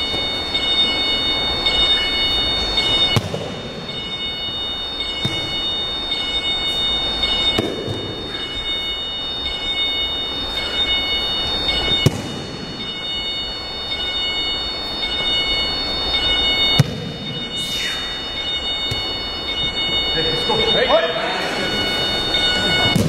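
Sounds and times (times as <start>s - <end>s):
room noise: 0.0s - 23.0s.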